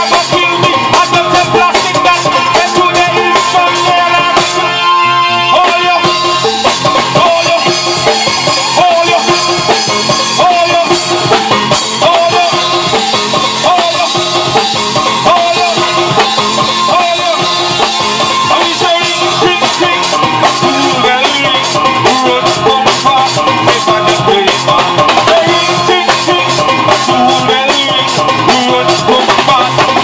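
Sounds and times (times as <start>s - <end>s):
drum kit playing dance groove: 0.0s - 30.0s
wavering melody line: 0.6s - 29.4s.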